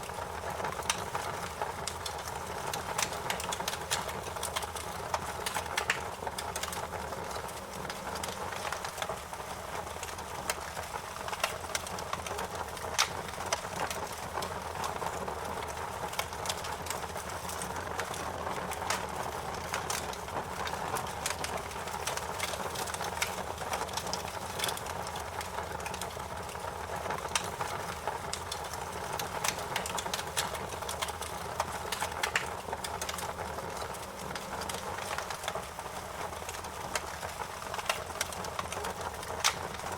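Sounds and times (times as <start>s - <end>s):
fire crackling and snapping: 0.0s - 39.9s.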